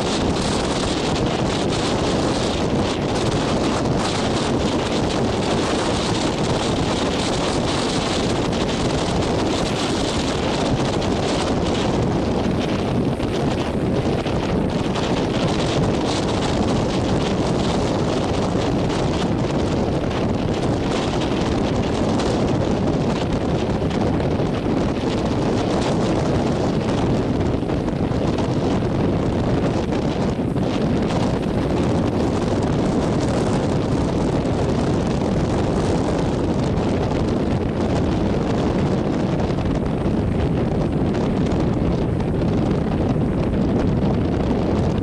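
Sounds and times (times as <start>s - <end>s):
rough sea breaking: 0.0s - 45.0s
wind buffeting microphone: 0.0s - 45.0s.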